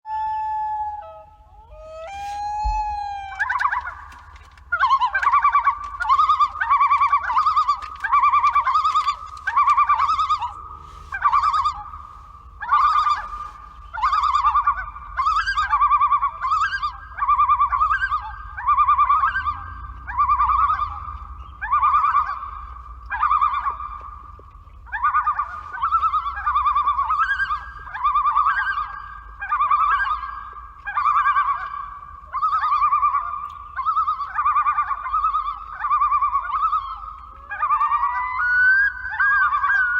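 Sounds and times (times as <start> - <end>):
loons tremolo calling: 0.1 - 24.2, 24.9 - 39.9.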